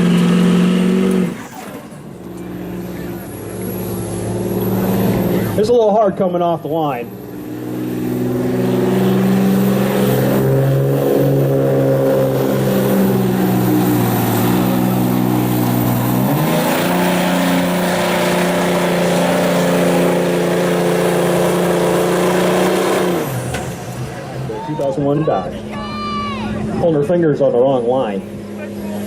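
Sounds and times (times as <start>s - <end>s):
diesel truck engine under load: 0.0s - 29.0s.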